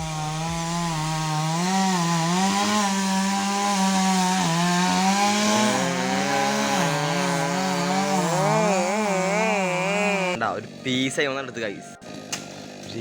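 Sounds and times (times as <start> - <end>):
chainsaw cutting wood: 0.0 - 11.1, 12.0 - 13.0.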